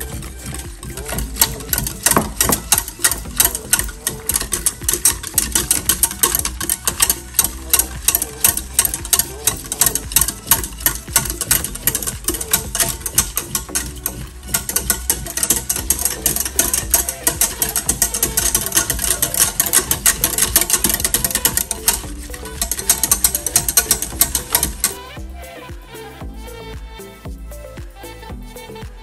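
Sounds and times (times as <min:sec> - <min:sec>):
whisk clicking against metal pan: 0:00.0 - 0:25.0.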